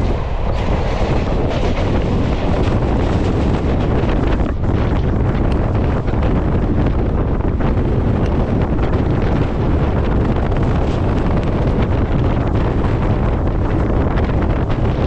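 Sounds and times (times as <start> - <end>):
train running noise: 0.0 - 15.0
wind buffeting microphone: 0.0 - 15.0.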